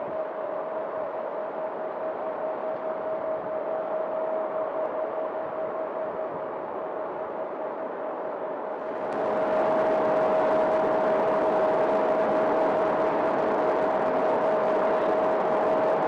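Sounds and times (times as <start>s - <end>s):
mechanical whir with hum: 0.0s - 16.0s.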